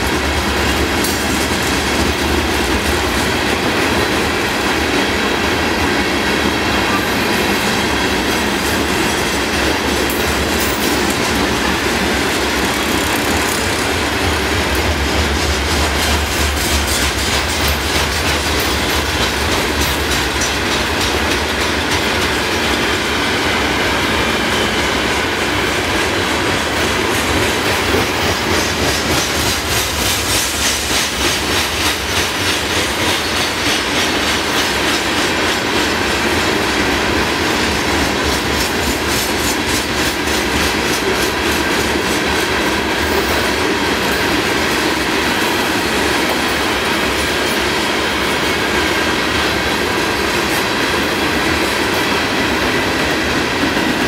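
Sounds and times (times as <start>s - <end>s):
freight train wheels rumbling: 0.0s - 54.0s
wheels clacking over rail joints: 0.0s - 54.0s.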